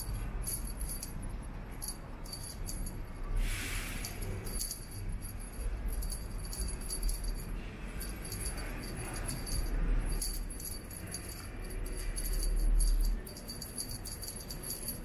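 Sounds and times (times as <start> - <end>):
small bell jingling: 0.0 - 15.0.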